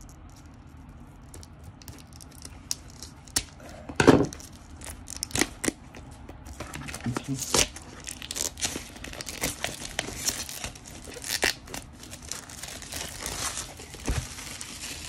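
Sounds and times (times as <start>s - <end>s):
plastic wrap crinkling and tearing: 0.0s - 15.0s.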